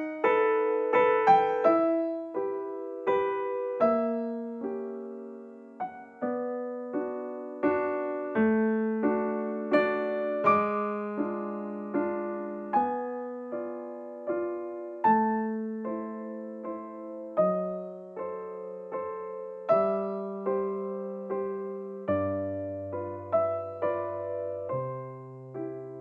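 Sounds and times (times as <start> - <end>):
solo piano waltz: 0.0 - 26.0.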